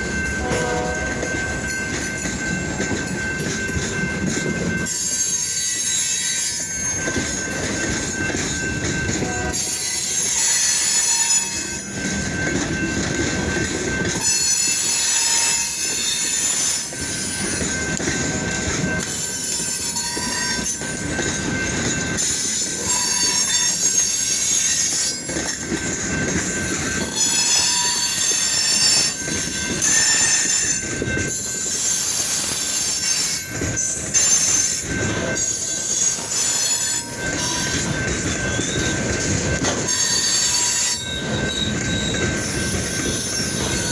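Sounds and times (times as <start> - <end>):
rumble of train cars: 0.0 - 43.9
train wheels squealing on rails: 0.0 - 43.9.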